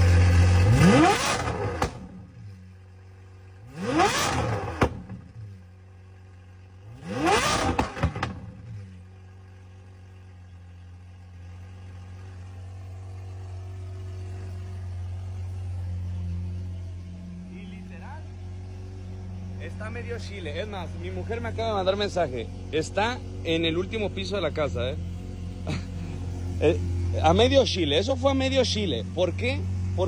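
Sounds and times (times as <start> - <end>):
engine idling: 0.0 - 30.0
sports car engine revving: 0.0 - 30.0.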